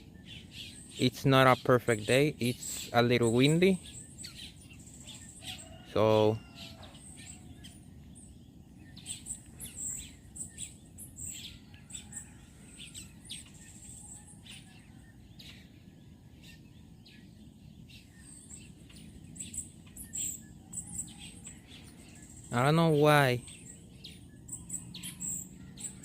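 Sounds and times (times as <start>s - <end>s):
birds chirping: 0.0s - 26.0s
low background noise: 0.0s - 26.0s.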